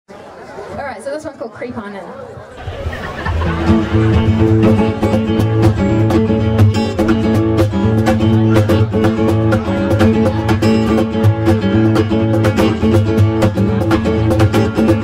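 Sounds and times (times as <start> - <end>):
acoustic guitar playing: 2.6 - 15.0
cajon beat: 2.6 - 15.0.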